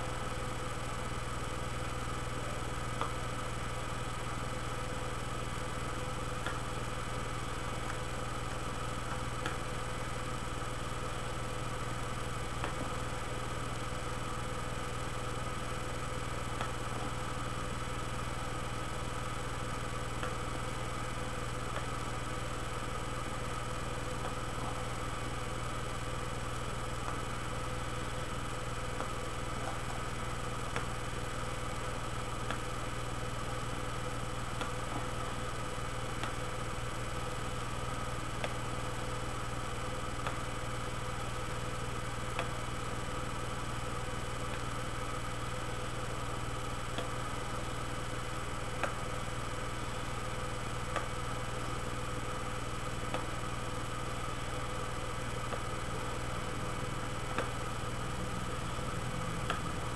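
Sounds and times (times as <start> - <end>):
steady multi-tone hum: 0.0 - 59.9.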